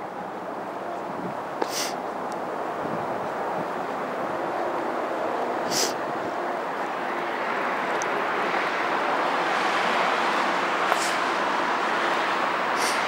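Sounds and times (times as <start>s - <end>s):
road traffic hiss: 0.0s - 13.0s.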